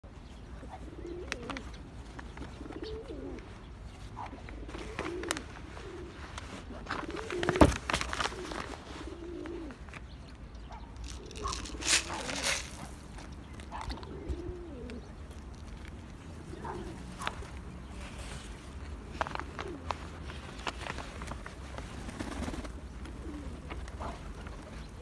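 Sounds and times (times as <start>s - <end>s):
pigeons cooing: 0.2s - 15.4s, 16.2s - 25.0s.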